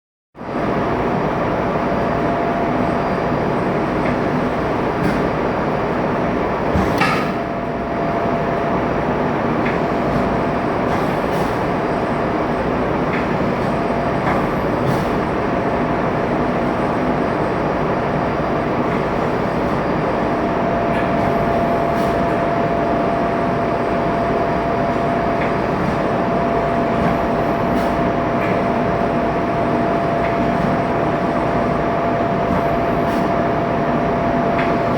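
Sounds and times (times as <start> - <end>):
engine-room machinery whine: 0.4 - 34.9.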